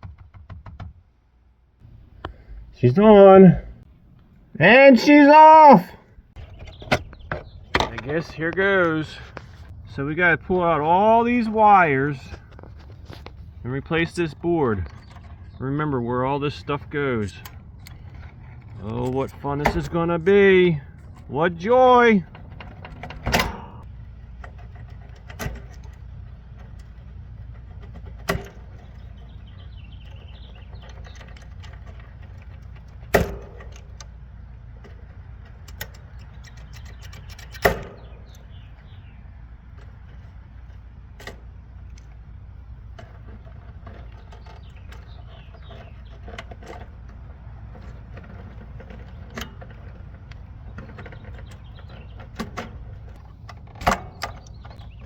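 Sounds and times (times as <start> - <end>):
connectors clicking and knocking: 0.0 - 1.1, 6.2 - 55.0.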